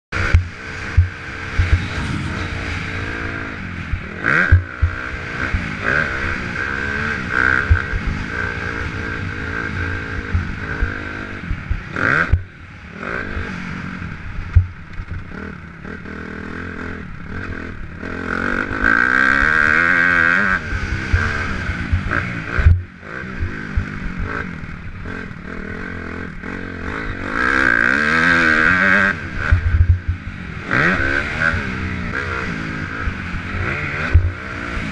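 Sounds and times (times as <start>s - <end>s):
dirt bike engine revving: 0.2s - 14.5s, 15.2s - 34.9s.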